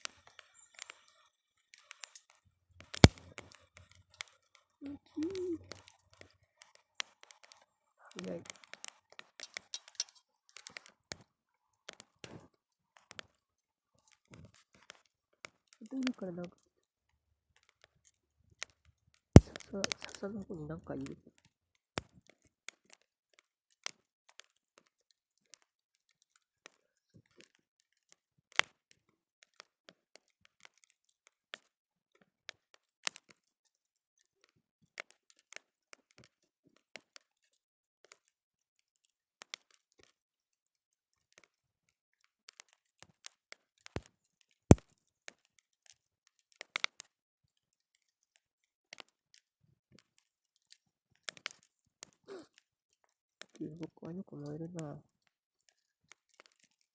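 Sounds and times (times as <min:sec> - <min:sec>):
wood fire crackling: 0:00.0 - 0:38.3, 0:39.0 - 0:40.2, 0:41.1 - 0:47.1, 0:47.9 - 0:56.9.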